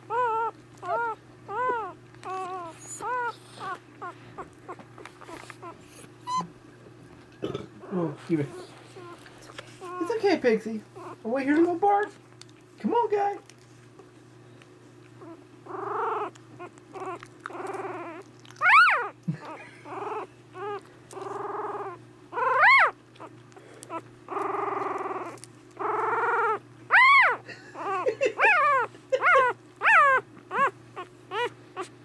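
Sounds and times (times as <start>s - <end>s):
puppy crying and squeaking: 0.0s - 6.6s, 7.8s - 11.6s, 15.2s - 32.0s.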